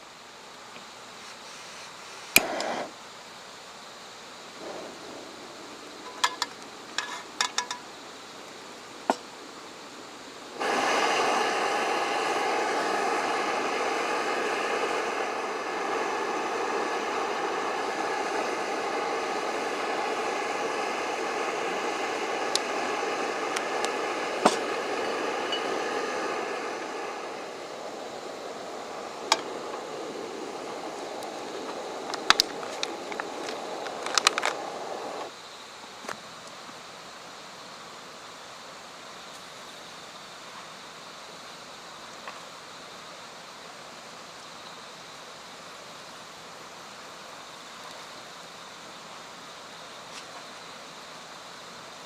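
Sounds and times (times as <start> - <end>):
gas stove hissing roar: 0.0 - 52.0.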